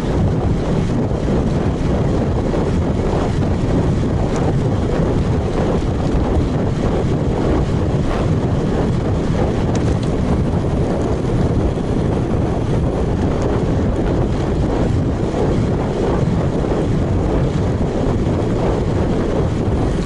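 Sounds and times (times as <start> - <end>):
wind rushing on microphone: 0.0 - 20.0.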